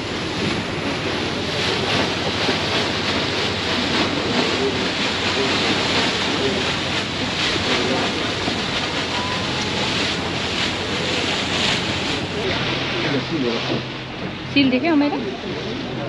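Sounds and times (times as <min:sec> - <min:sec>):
water churning along boat hull: 0:00.0 - 0:16.0.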